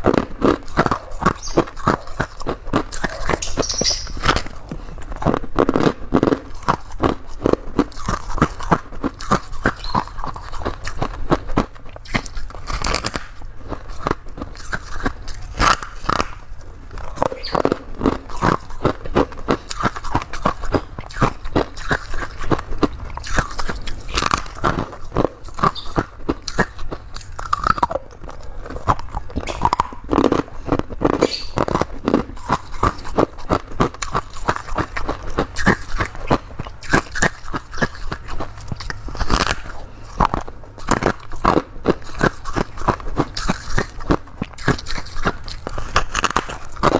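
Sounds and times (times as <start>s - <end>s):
person chewing crunchy frost: 0.0s - 46.9s.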